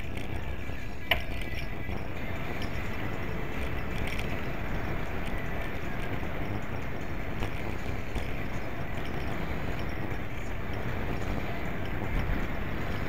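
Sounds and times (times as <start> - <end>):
bike rattles: 0.0 - 13.0
wind on microphone: 0.0 - 13.0.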